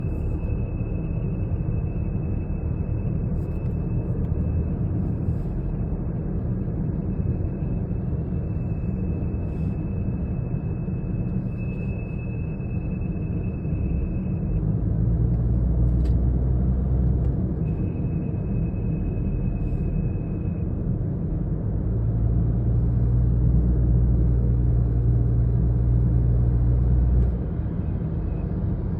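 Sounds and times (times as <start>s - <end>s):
car engine low rumble: 0.0s - 28.9s
high-pitched whine: 0.0s - 28.9s.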